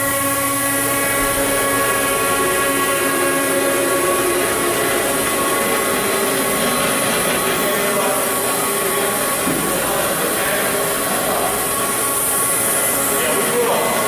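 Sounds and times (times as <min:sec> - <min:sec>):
machine hum with whining tones: 0:00.0 - 0:14.0.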